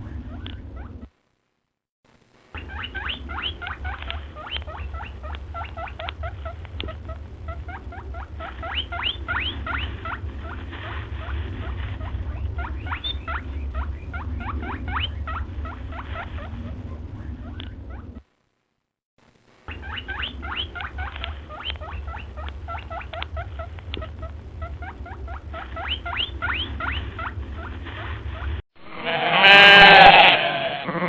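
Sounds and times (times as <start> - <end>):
small animal squeaking: 0.0 - 1.1, 2.6 - 18.2, 19.7 - 28.6
steady low rumble: 0.0 - 1.4, 2.1 - 18.6, 19.2 - 28.6.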